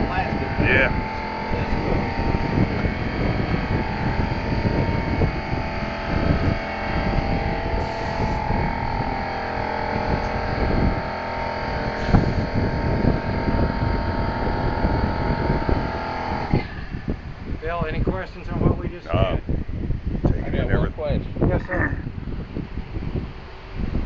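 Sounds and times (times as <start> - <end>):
machine humming: 0.0 - 20.7.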